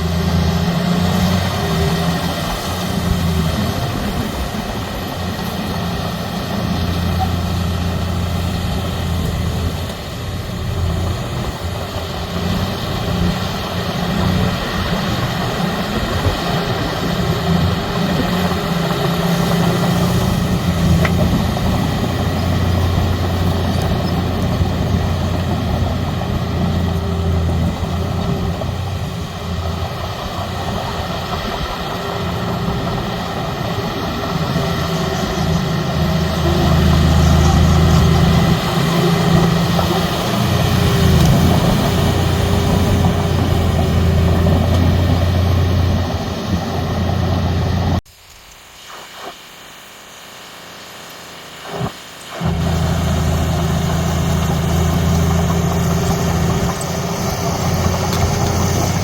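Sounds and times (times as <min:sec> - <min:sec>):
heavy diesel engines droning: 0:00.0 - 0:48.0, 0:51.7 - 0:59.0.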